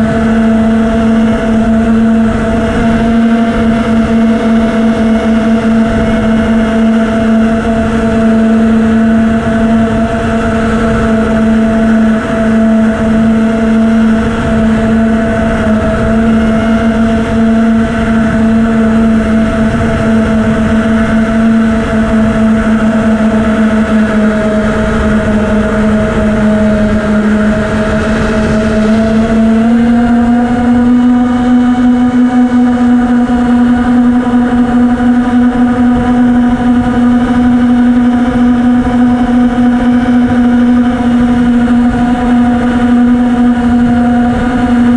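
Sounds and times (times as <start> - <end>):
quadcopter motors buzzing: 0.0 - 44.9
wind rush: 0.0 - 44.9.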